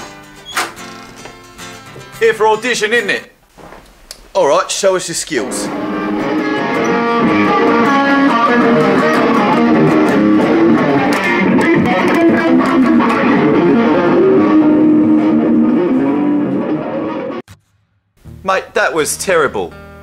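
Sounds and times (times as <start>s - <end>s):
guitar playing: 0.0s - 2.8s, 5.4s - 20.0s.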